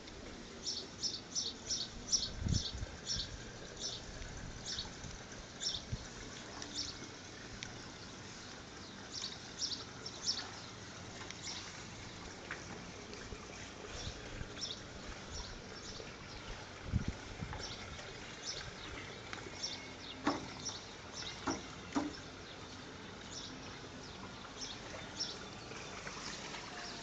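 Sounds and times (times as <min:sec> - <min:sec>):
faint steady hiss: 0:00.0 - 0:27.0
small birds chirping: 0:00.6 - 0:05.0, 0:05.6 - 0:12.3, 0:13.5 - 0:16.7, 0:17.5 - 0:27.0.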